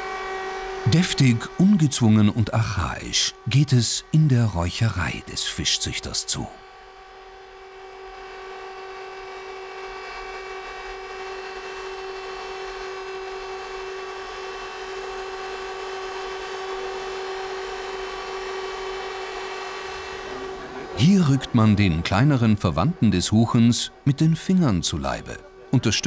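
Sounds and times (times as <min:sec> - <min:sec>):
pitched hum with overtones: 0:00.0 - 0:26.0.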